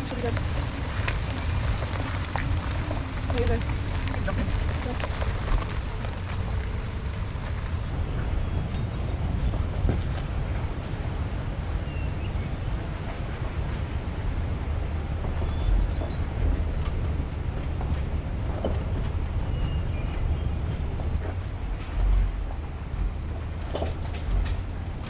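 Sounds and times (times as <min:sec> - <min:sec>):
pickup engine and tyres rumbling: 0:00.0 - 0:25.0.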